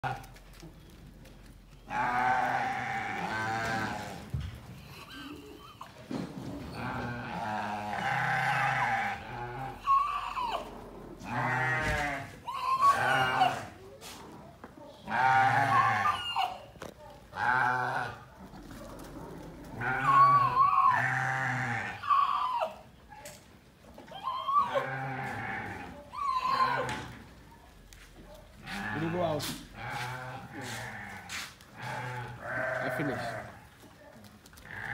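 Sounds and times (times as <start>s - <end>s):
goats and sheep bleating: 0.0s - 0.6s, 1.8s - 5.9s, 6.7s - 13.8s, 15.0s - 23.0s, 24.0s - 27.3s, 28.6s - 33.8s, 34.5s - 34.9s.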